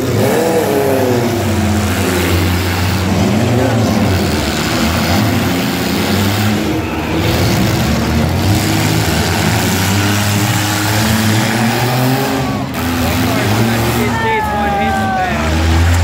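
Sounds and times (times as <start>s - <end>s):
car engines revving: 0.0s - 16.0s
cars ramming each other: 0.0s - 16.0s.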